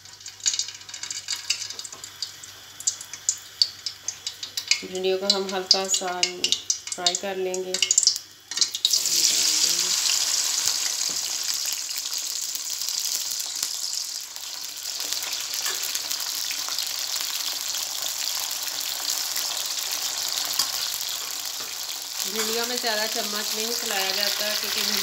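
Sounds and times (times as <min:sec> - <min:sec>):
okra sizzling in hot oil: 0:00.0 - 0:25.0.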